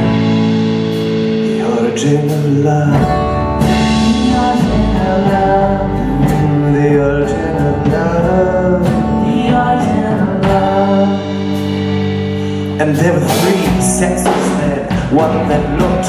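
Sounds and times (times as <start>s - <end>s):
bass guitar: 0.0s - 16.0s
drums: 0.0s - 16.0s
guitar chords: 0.0s - 16.0s.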